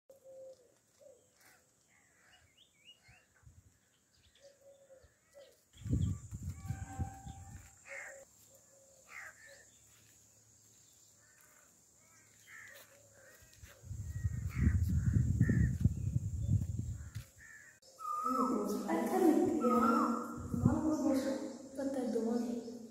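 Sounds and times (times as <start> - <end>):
birds calling: 0.1 - 10.1, 10.7 - 22.9.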